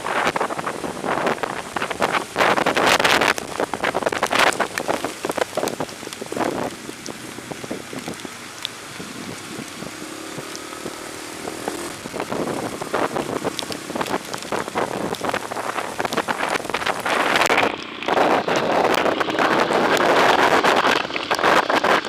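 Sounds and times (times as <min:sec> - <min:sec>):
raindrops tapping on microphone: 0:00.0 - 0:22.0.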